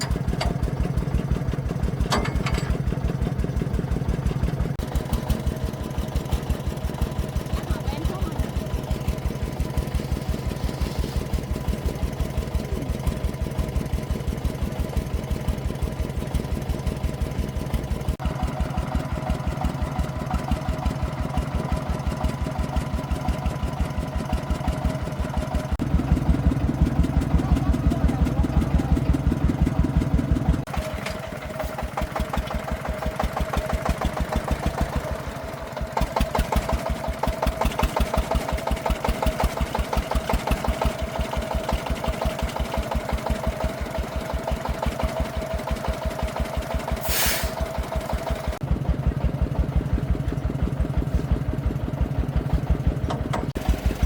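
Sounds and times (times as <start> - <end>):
diesel engine thumping: 0.0 - 54.0.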